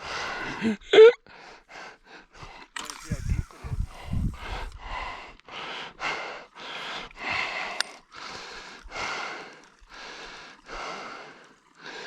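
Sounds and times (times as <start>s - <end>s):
heavy breathing: 1.3s - 12.0s.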